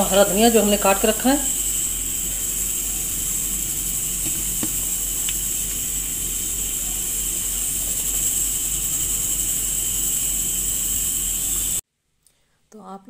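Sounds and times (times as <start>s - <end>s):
cooking hiss and hum: 0.0s - 11.8s.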